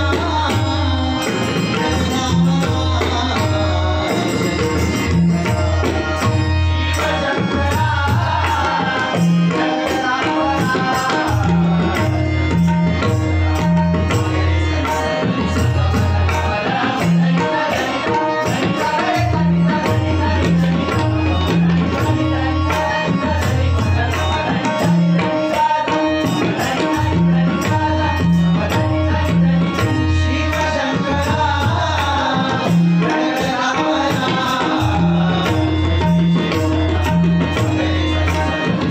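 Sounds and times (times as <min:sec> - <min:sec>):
hand drums playing rhythm: 0:00.0 - 0:38.9
man singing: 0:00.0 - 0:38.9.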